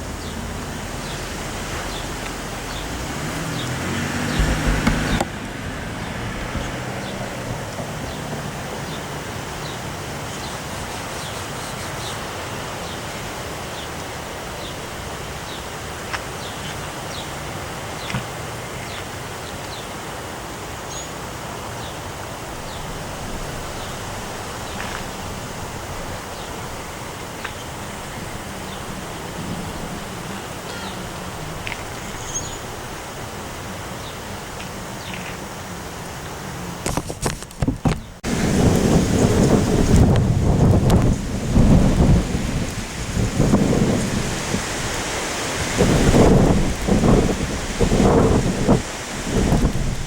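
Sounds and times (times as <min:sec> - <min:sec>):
wind blowing: 0:00.0 - 0:18.0, 0:22.0 - 0:50.0.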